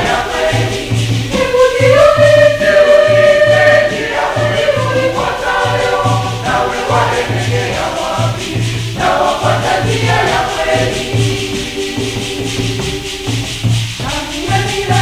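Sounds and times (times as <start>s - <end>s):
bass beat: 0.0s - 15.0s
choir singing a hymn: 0.0s - 15.0s
shaker: 0.0s - 15.0s.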